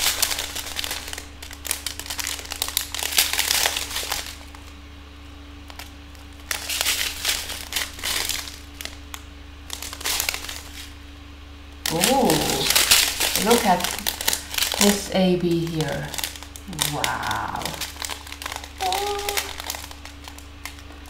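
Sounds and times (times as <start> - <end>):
plastic bags crinkling: 0.0 - 4.8, 5.5 - 11.1, 11.8 - 21.0.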